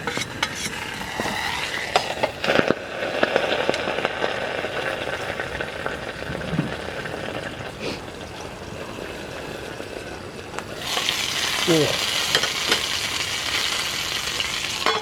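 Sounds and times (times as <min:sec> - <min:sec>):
campfire crackling pops: 0:00.0 - 0:15.0
meat sizzling in a grill pan: 0:00.0 - 0:15.0.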